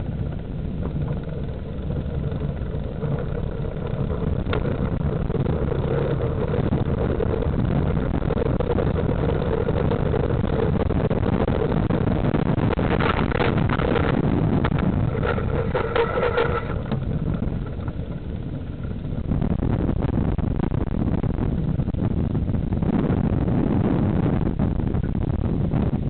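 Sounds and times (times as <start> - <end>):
road rumble: 0.0 - 26.0
wind buffeting: 0.0 - 26.0.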